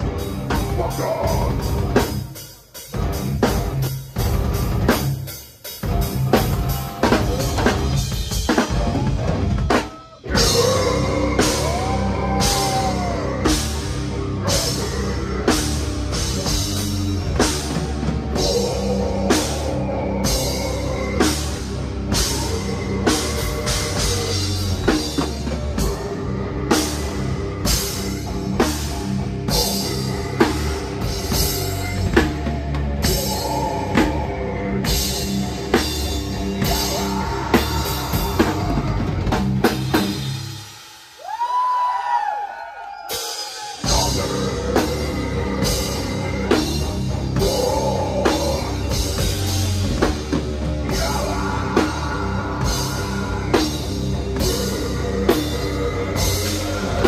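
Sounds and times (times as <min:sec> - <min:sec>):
metal band playing: 0:00.0 - 0:41.6, 0:43.0 - 0:57.0.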